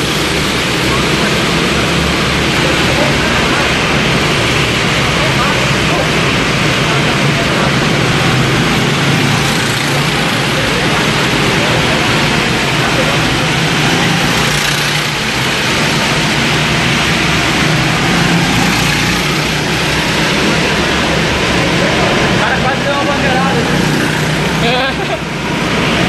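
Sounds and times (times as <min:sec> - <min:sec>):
go-kart engines: 0:00.0 - 0:26.0.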